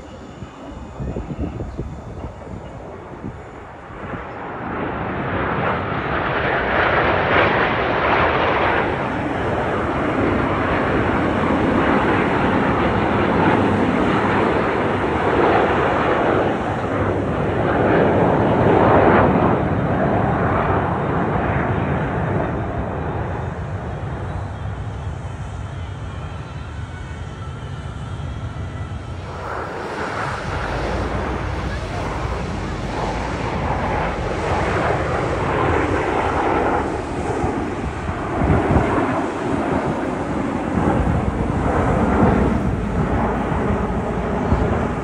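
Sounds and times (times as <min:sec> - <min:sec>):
jet formation flying past: 0:00.0 - 0:25.5, 0:27.8 - 0:45.0.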